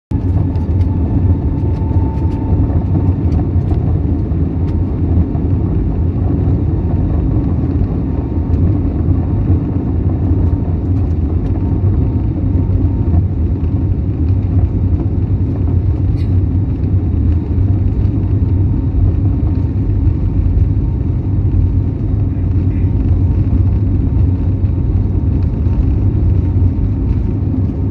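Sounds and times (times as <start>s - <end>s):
airliner cabin engine rumble: 0.1s - 27.9s.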